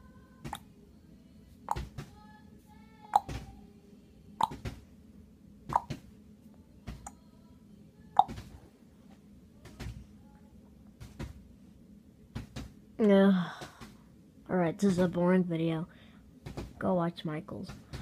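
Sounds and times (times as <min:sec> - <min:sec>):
air conditioner hum: 0:00.0 - 0:18.0.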